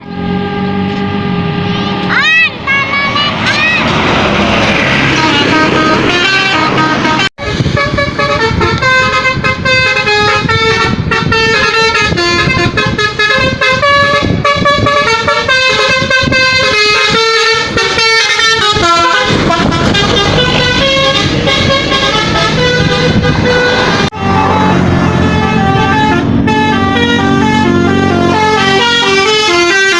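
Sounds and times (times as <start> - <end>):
multi-tone bus horn melody: 0.0 - 29.9
vehicle noise: 0.0 - 29.9.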